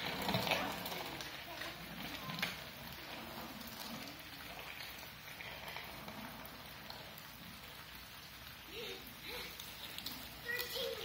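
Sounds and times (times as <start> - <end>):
rain on concrete and puddles: 0.0 - 11.0.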